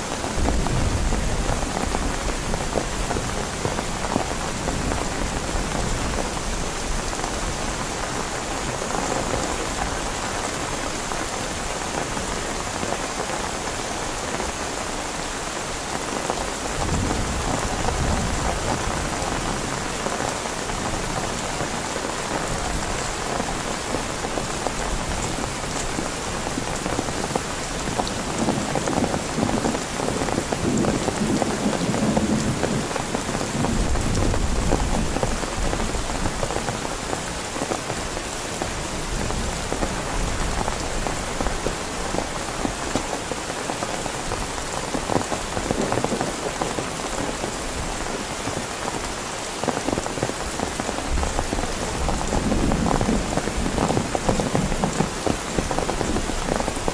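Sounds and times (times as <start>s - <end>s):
heavy rain on a tent: 0.0s - 56.9s.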